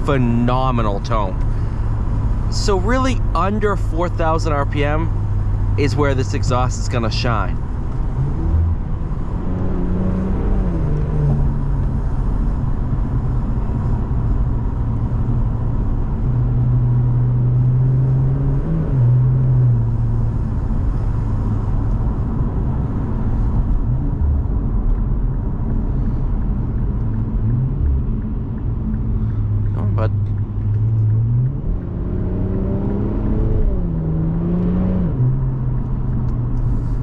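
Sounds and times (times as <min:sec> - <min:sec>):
low exhaust drone: 0:00.0 - 0:37.0.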